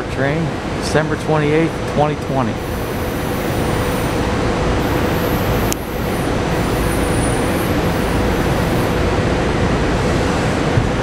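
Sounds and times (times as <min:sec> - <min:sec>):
faint constant hum: 0:00.0 - 0:11.0
train rumbling in tunnel: 0:00.0 - 0:11.0.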